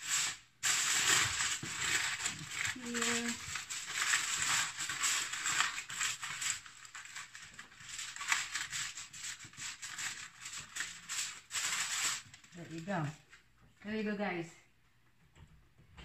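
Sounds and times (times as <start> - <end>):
aluminum foil crinkling: 0.0 - 13.4.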